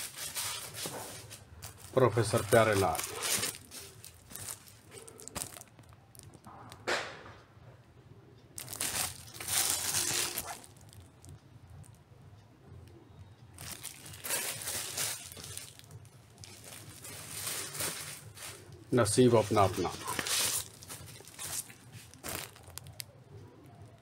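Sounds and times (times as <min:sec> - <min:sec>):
plastic wrapping crinkling: 0:00.0 - 0:06.5, 0:08.6 - 0:12.0, 0:13.5 - 0:24.0.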